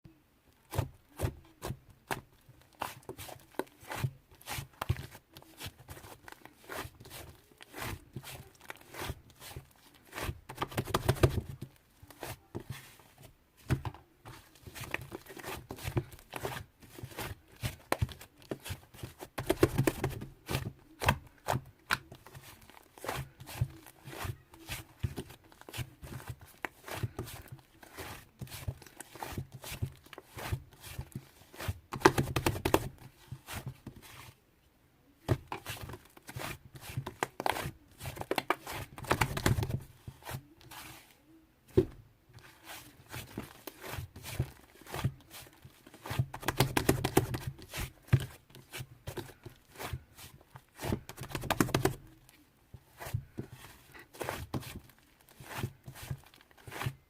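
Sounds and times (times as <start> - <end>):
rustling handling noise: 0.6 - 34.4, 35.1 - 57.0.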